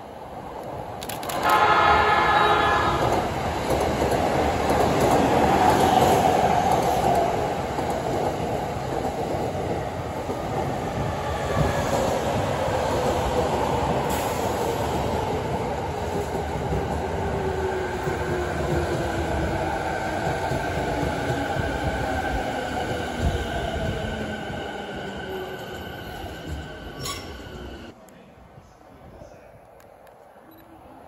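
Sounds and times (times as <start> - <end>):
train rumbling along rails: 0.0 - 28.0.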